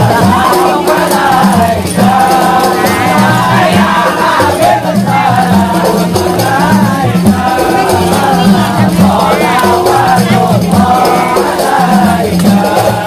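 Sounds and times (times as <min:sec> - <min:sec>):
frame drums beating: 0:00.0 - 0:13.0
shaking rattles or jingles: 0:00.0 - 0:13.0
voices singing together: 0:00.0 - 0:13.0.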